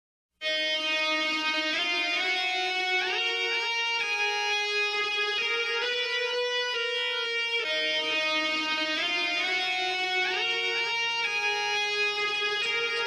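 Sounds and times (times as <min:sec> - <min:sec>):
instrumental background music: 0:00.4 - 0:13.0.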